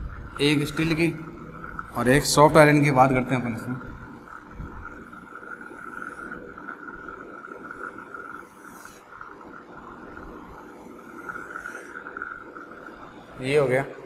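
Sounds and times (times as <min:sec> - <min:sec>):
steady high hum: 0:00.0 - 0:14.0.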